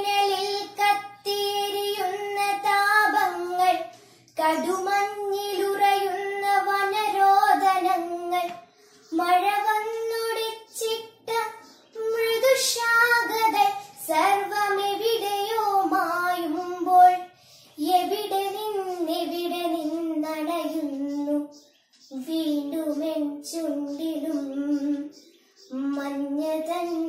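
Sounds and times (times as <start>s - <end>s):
girl singing unaccompanied: 0.0s - 27.0s.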